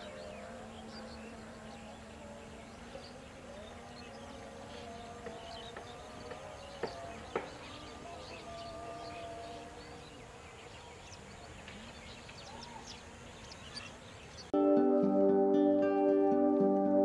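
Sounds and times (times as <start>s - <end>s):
birds and insects chirping: 0.0s - 15.6s.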